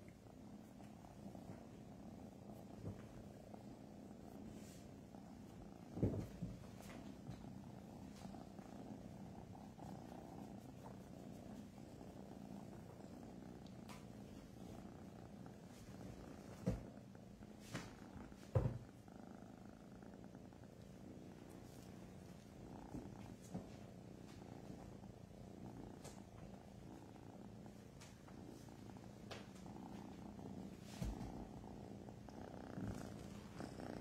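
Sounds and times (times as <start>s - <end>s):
kittens purring: 0.0s - 34.0s.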